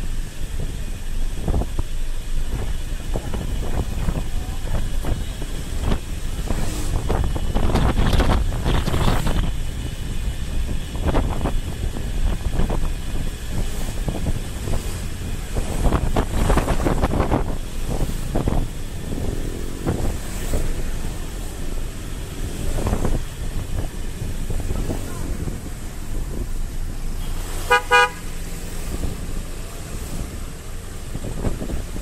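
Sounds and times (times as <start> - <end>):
road and engine rumble: 0.0 - 32.0
wind buffeting microphone: 0.0 - 32.0.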